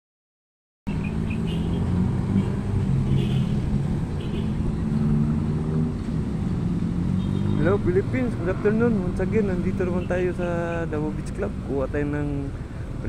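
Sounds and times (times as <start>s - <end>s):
vehicle engine rumble: 0.9s - 13.0s.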